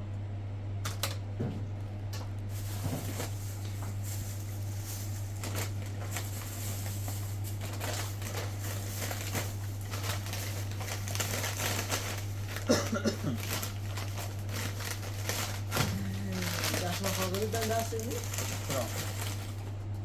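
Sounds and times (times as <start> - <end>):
steady low hum: 0.0 - 20.0
rustling of objects handled: 2.4 - 19.7.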